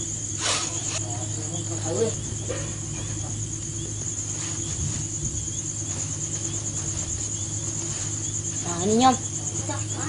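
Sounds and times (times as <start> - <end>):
crickets trilling: 0.0 - 10.0
low continuous hum: 0.0 - 10.0.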